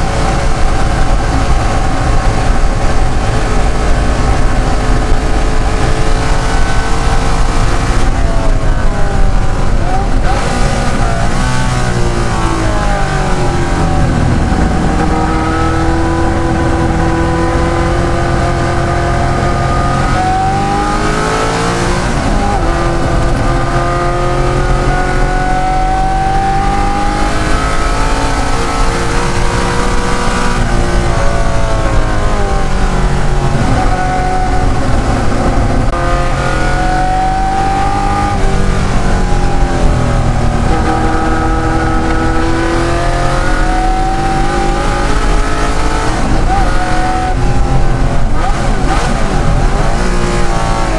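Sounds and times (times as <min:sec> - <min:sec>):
vee eight engine racing: 0:00.0 - 0:50.9.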